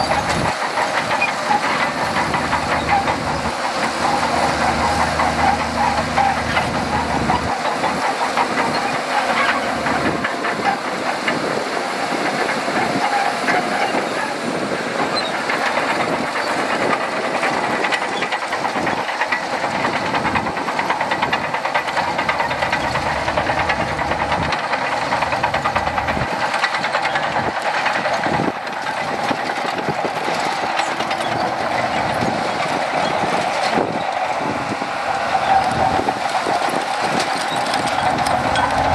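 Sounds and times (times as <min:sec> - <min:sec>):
bulldozer diesel engine under load: 0:00.0 - 0:38.9
rapid clatter: 0:00.0 - 0:38.9.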